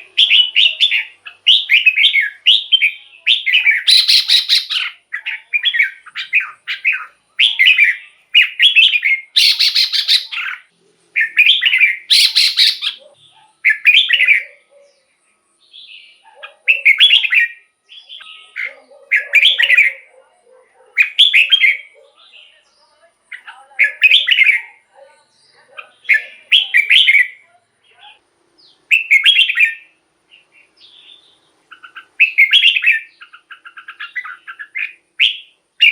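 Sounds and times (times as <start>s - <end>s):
bird singing warbled phrases: 0.0s - 35.9s.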